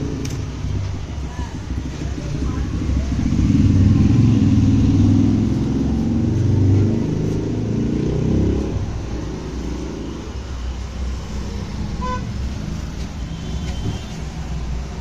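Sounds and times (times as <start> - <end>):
vehicle engine running: 0.0 - 13.4
traffic rumble: 0.0 - 15.0.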